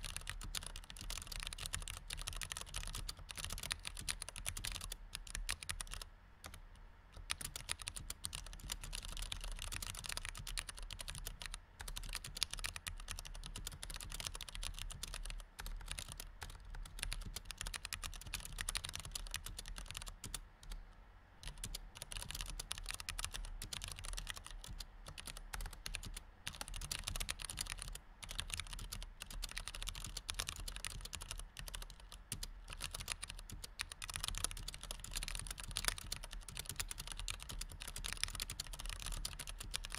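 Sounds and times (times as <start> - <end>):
computer keyboard typing: 0.0 - 6.6, 7.2 - 20.8, 21.4 - 39.9.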